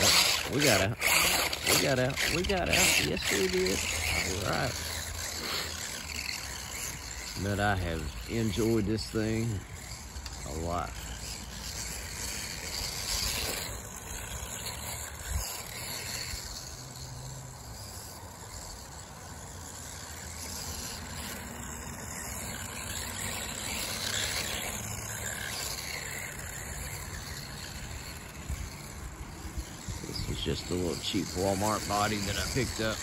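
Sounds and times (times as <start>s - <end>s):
rc car motor whirring: 0.0s - 33.0s.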